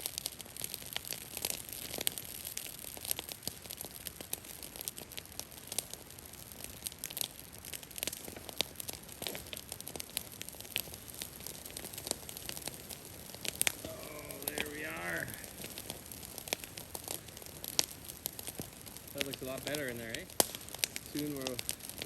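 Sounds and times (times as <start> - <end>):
faint steady hiss: 0.0 - 22.0
branches crackling and snapping: 0.1 - 22.0.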